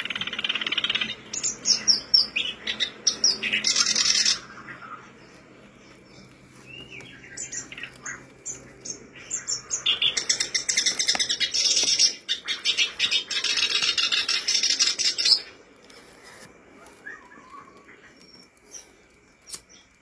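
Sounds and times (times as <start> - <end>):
warbler singing: 0.0 - 20.0.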